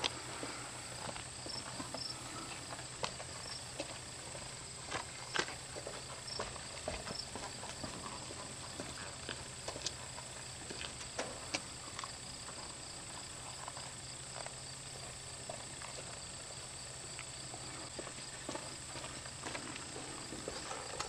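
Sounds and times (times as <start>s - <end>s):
footsteps on pavement: 0.0s - 21.0s
steady low hum: 0.0s - 21.0s.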